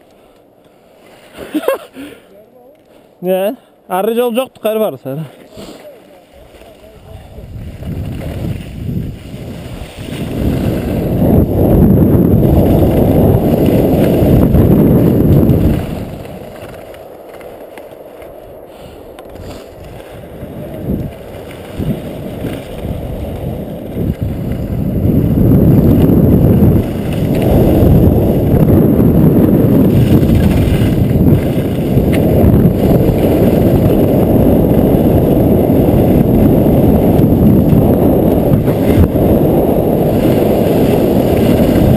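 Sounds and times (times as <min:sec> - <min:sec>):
skis hissing over snow: 0:00.0 - 0:02.4, 0:05.2 - 0:41.9
wind buffeting microphone: 0:06.4 - 0:17.1, 0:18.4 - 0:41.9.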